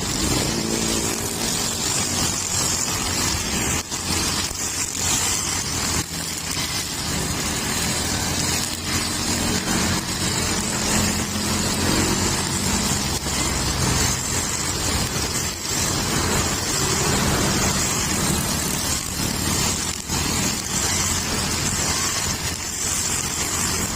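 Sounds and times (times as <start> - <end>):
brush cutter engine running: 0.0 - 23.9
string head cutting grass: 0.0 - 23.9.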